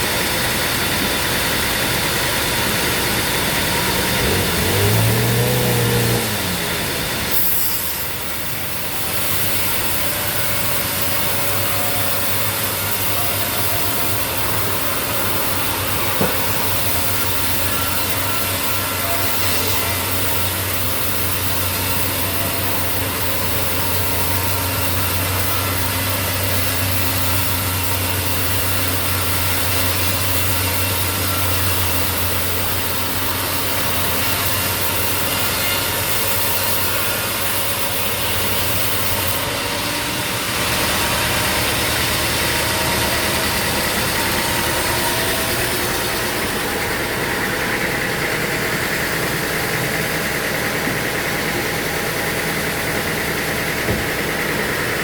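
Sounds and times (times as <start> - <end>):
saw cutting through wood: 0.0 - 55.0.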